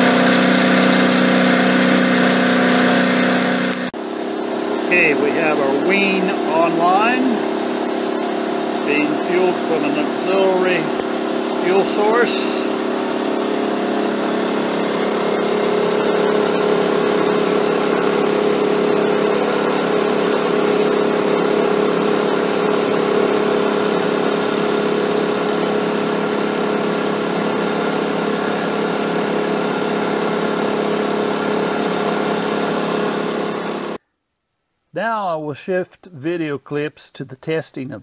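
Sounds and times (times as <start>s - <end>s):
portable generator engine running: 0.0s - 34.0s.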